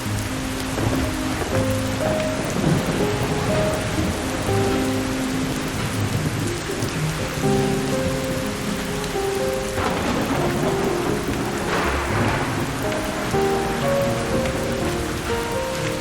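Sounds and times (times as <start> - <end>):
low roll of thunder: 0.0 - 16.0
soft sustained music notes: 0.0 - 16.0
steady rain: 0.0 - 16.0.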